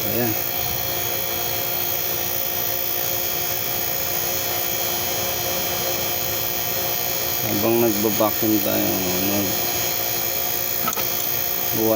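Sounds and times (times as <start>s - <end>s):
vacuum pump running: 0.0s - 11.9s.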